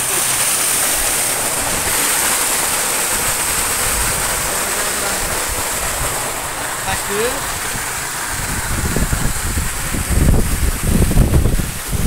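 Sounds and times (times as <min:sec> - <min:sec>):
water and air spraying from vent: 0:00.0 - 0:12.0.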